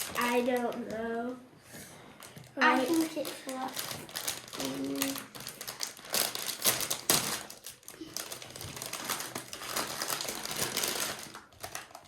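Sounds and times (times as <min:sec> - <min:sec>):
wrapper crinkling and crackling: 0:00.0 - 0:01.4, 0:02.2 - 0:12.0.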